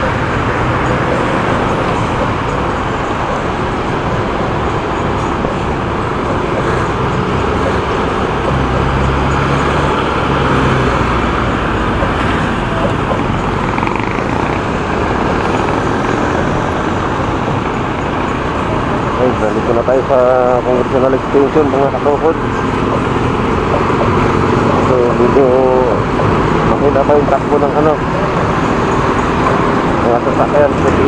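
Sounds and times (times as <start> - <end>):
low vehicle engine hum: 0.0 - 31.0
road and traffic noise: 0.0 - 31.0.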